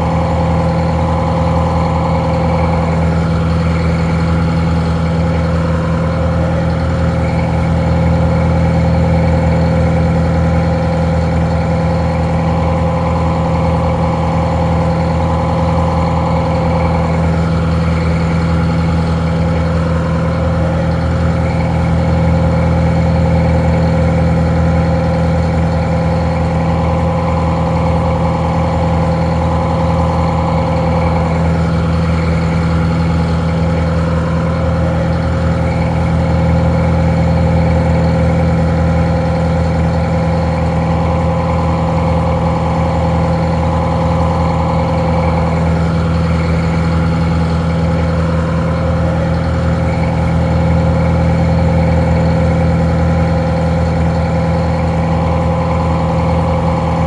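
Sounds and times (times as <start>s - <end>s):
muffled diesel engine idling: 0.0s - 57.0s.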